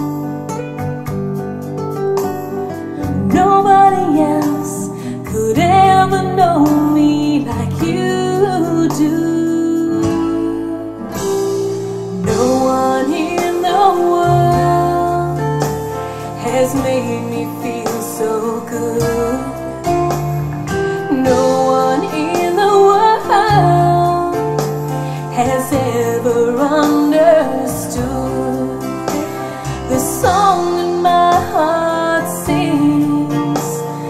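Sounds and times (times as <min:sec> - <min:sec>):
song with singing and guitar: 0:00.0 - 0:34.0.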